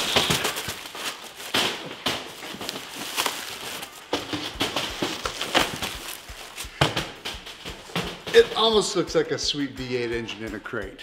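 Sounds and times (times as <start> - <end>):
plastic wrap and foam rustling: 0.0 - 9.3.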